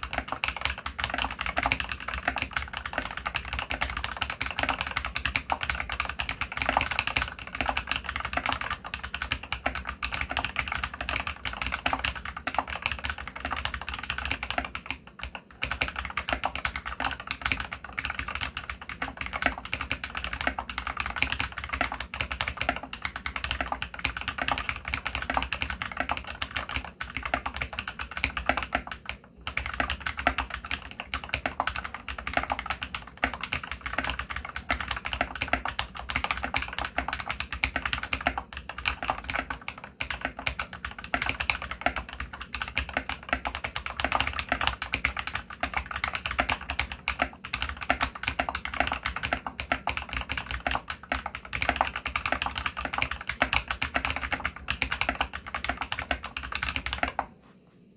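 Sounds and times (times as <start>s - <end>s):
fast typing on mechanical keyboard: 0.0s - 57.3s.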